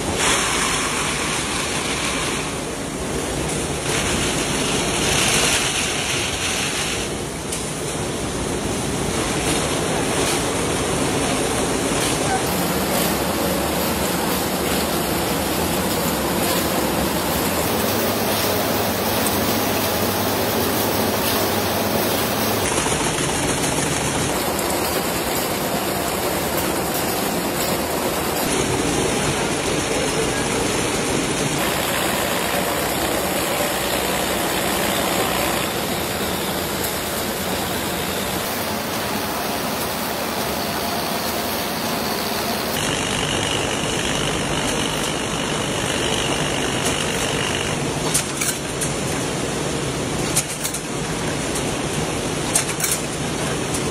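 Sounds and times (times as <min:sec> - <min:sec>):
match-making machinery running: 0:00.0 - 0:53.9.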